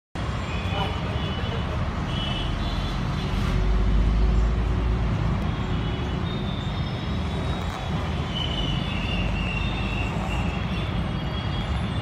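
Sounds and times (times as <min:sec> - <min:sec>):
street traffic rumble: 0:00.2 - 0:12.0.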